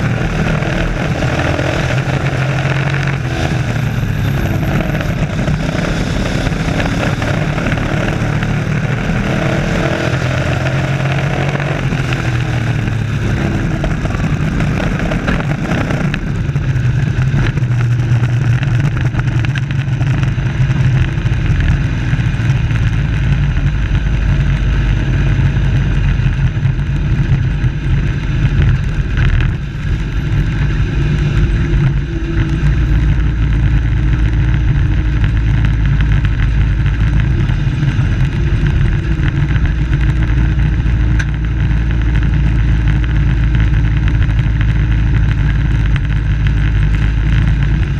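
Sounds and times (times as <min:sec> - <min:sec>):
race truck engines: 0:00.0 - 0:47.9.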